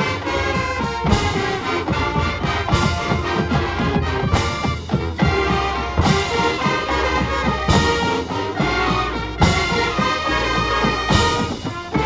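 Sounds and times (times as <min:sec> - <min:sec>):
marching band playing: 0:00.0 - 0:12.0.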